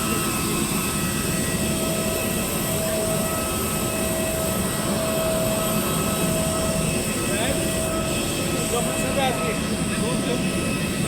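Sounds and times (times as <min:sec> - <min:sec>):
jet engine rushing and whining: 0:00.0 - 0:11.0.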